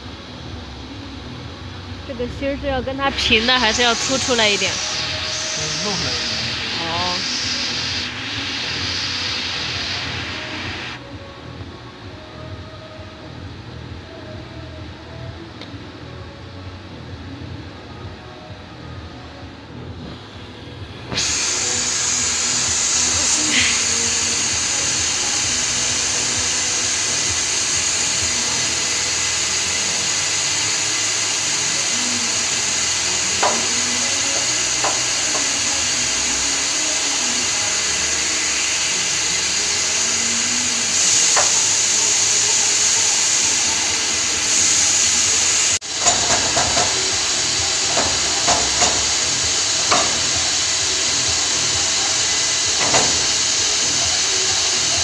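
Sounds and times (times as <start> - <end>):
steady hiss: 0.2 - 11.1, 20.0 - 55.0.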